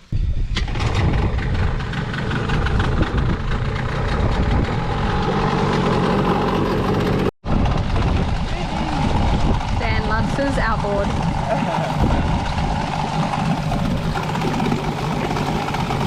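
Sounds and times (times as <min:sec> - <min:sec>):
boat engine running: 0:00.6 - 0:16.0.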